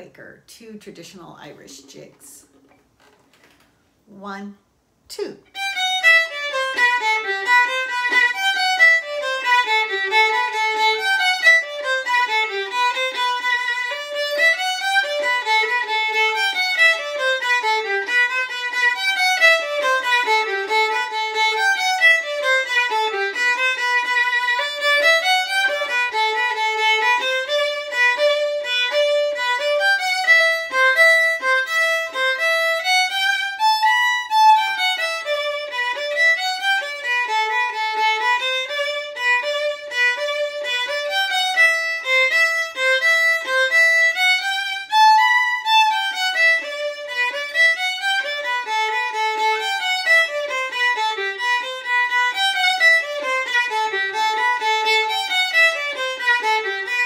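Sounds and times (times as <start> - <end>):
solo violin jig: 0.8 - 4.4, 5.5 - 57.0.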